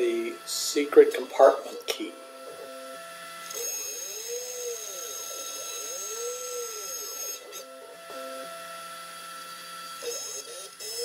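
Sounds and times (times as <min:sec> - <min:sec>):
axis motors rising and falling: 0:00.0 - 0:11.0
router spindle whine: 0:00.0 - 0:11.0.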